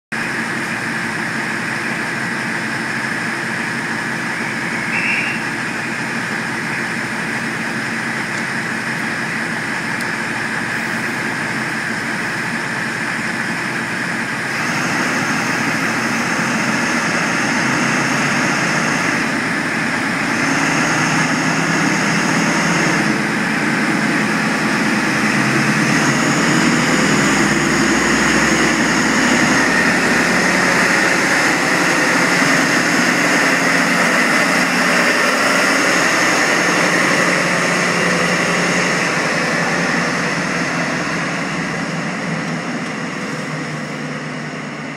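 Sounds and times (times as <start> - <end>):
diesel train engine running: 0.1 - 44.9.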